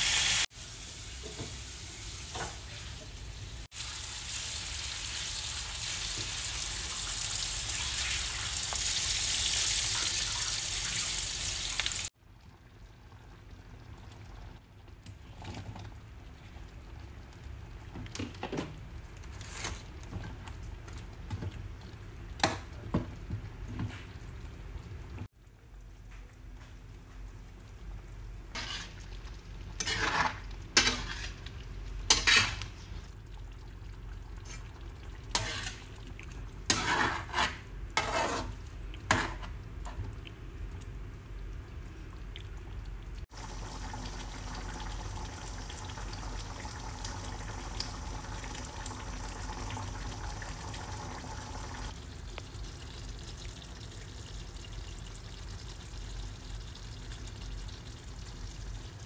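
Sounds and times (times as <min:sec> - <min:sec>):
curry sauce bubbling and sizzling: 0:03.7 - 0:26.1, 0:26.7 - 0:59.0.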